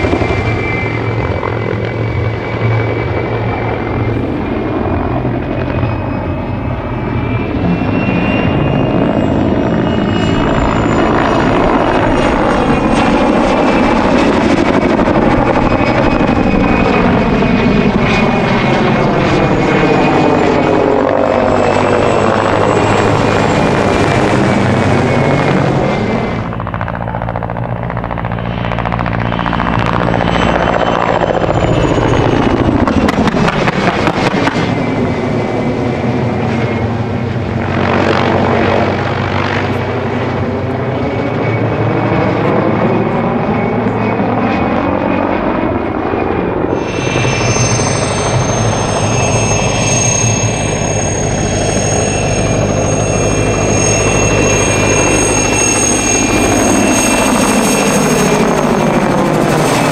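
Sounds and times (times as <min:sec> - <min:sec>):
helicopter turbine whine and rotor: 0:00.0 - 0:59.9.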